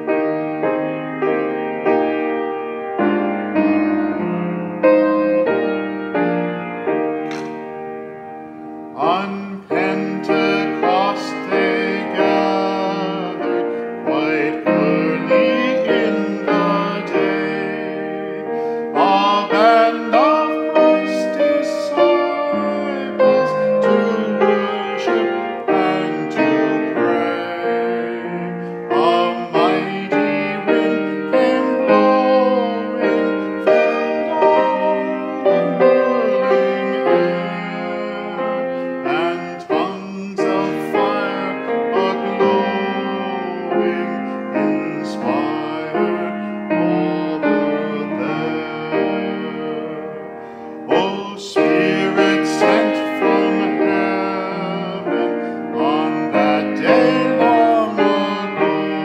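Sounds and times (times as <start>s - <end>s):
grand piano playing: 0.0s - 59.0s
man singing: 8.9s - 59.0s.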